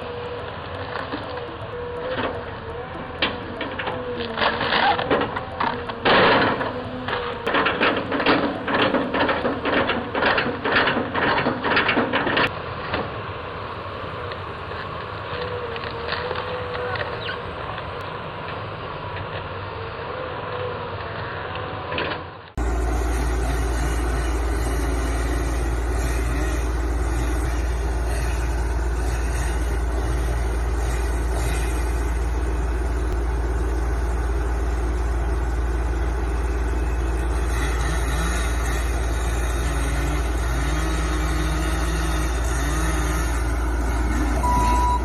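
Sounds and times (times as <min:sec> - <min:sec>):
engine deep rumble: 0:00.0 - 0:45.0.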